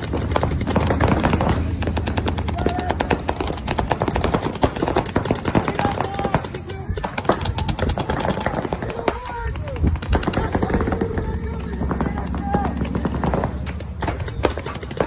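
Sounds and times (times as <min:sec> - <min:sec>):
paintball markers firing: 0:00.0 - 0:15.0.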